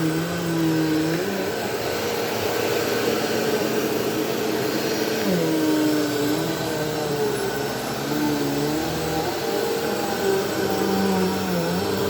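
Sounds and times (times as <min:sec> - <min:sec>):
upright vacuum running: 0:00.0 - 0:12.0.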